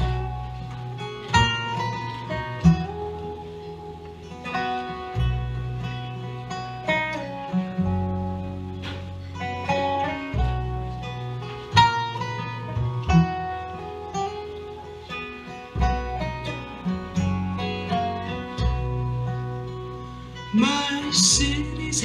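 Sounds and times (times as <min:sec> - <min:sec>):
acoustic guitar picking and strumming: 0:00.0 - 0:22.0
held low bass notes: 0:00.0 - 0:22.0.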